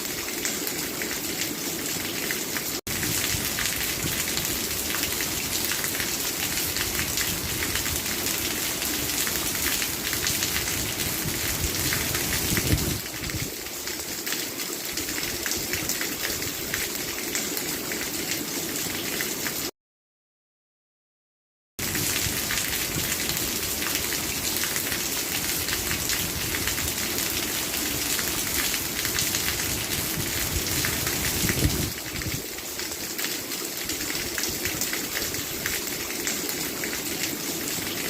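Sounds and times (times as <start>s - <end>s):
heavy rain falling: 0.0s - 19.7s, 21.8s - 38.0s.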